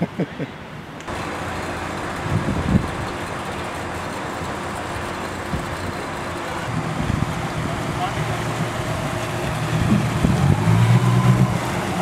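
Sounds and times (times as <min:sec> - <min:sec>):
even rushing noise: 0:01.0 - 0:12.0
motorboat engine idling: 0:01.1 - 0:12.0.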